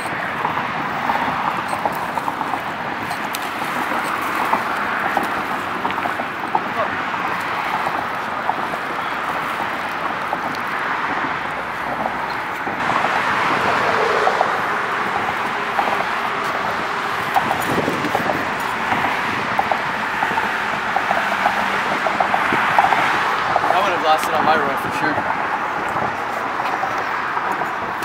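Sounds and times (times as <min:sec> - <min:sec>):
cars passing on bridge: 0:00.0 - 0:28.0.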